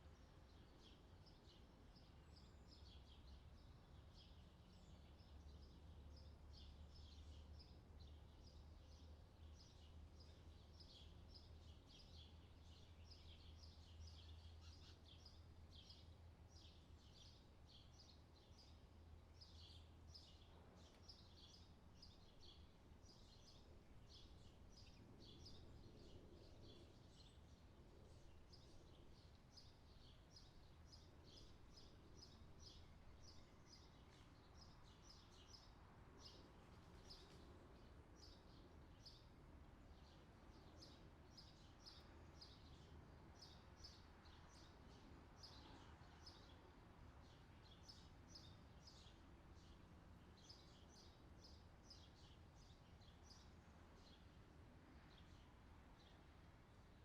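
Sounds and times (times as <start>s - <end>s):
faint forest birdsong chirps: 0.0s - 57.0s.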